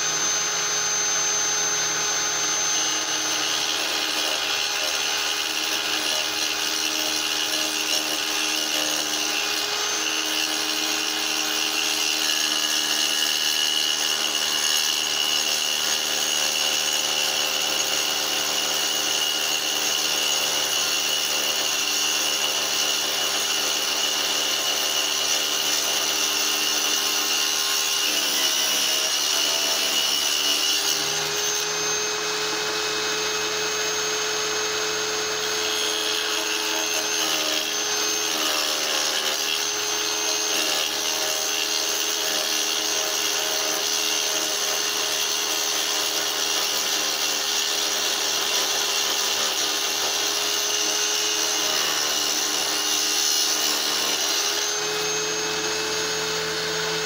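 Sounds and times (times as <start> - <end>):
tile saw cutting: 0.0 - 57.0.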